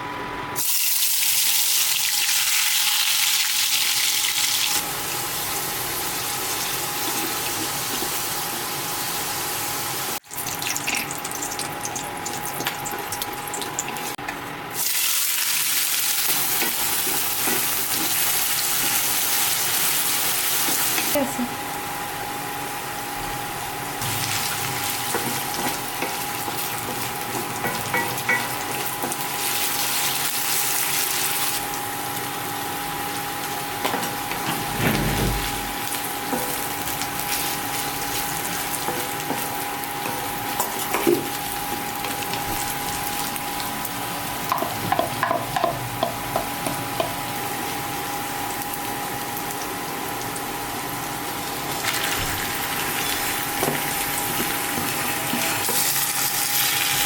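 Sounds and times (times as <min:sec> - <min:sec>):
food sizzling in hot oil: 0:00.6 - 0:34.5, 0:35.3 - 0:57.0.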